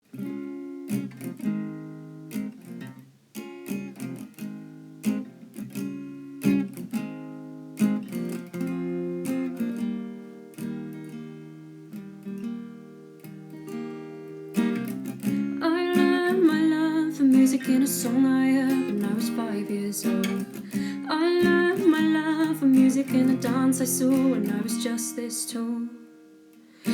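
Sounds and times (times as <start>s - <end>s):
acoustic guitar playing: 0.0s - 26.9s.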